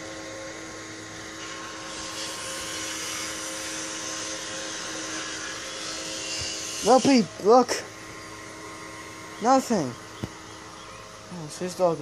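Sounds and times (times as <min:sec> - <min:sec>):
fan motor humming and whining: 0:00.0 - 0:12.0.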